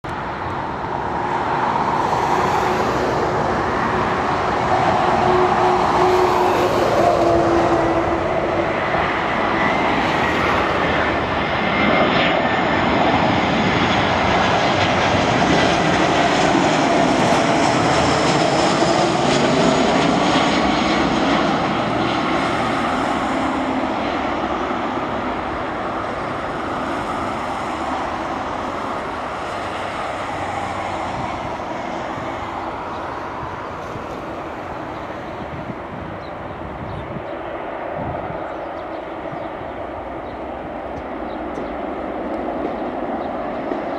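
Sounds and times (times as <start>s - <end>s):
jet airliner passing overhead: 0.1s - 43.9s.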